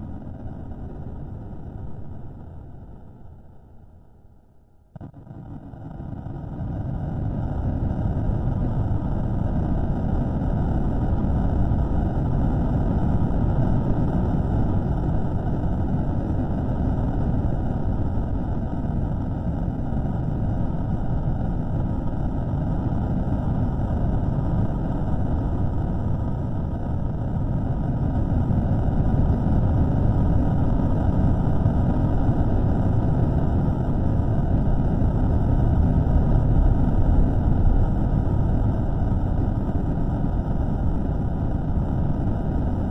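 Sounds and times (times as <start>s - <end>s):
low rumbling noise: 4.9s - 42.9s.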